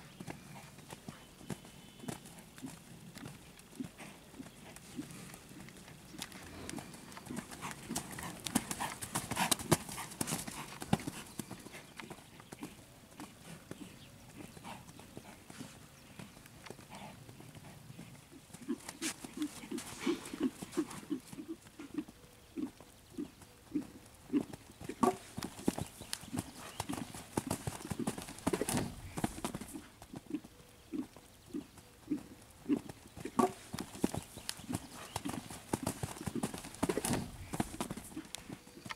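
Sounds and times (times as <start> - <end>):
horse hoofbeats on sand: 0.0 - 38.9.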